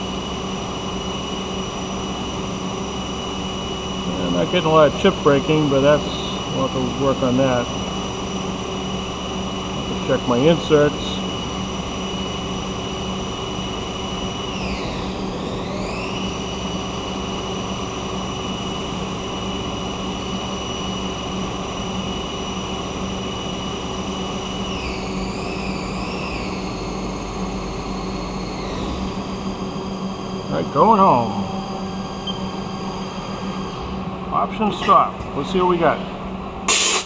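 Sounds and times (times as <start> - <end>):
high spindle whine: 0.0 - 37.0
lathe machine hum and hiss: 0.0 - 37.0.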